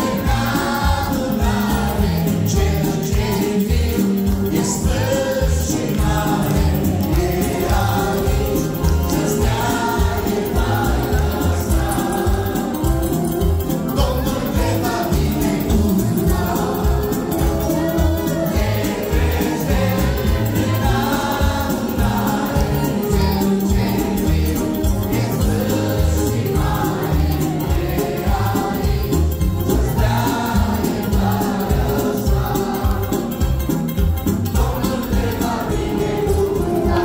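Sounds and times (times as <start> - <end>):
accordions: 0.0 - 37.0
keyboard: 0.0 - 37.0
men singing in harmony: 0.0 - 37.0.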